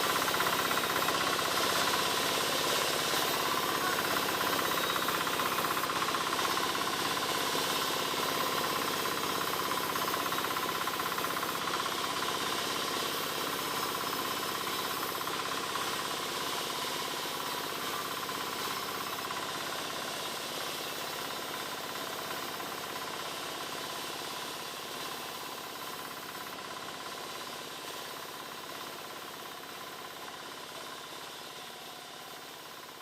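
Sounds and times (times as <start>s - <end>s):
motor-driven wood saw running: 0.0s - 33.0s.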